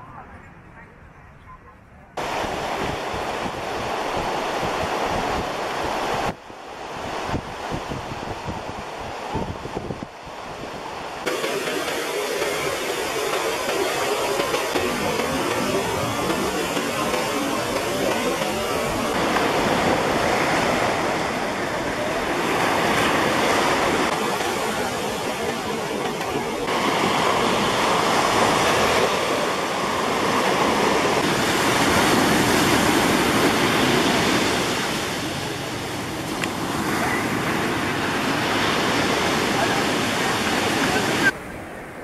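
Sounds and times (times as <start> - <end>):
ocean surf breaking on beach: 2.2 - 42.0.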